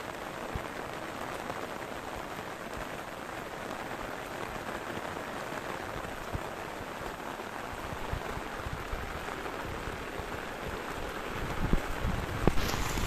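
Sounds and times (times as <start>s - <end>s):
raindrops striking surface: 0.0s - 13.0s
steady rain hiss: 0.0s - 13.0s.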